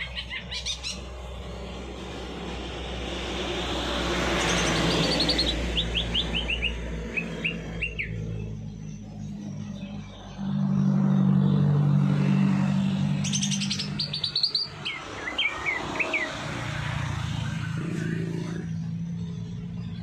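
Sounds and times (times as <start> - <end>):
low steady drone: 0.0 - 20.0
songbirds chirping: 0.0 - 20.0.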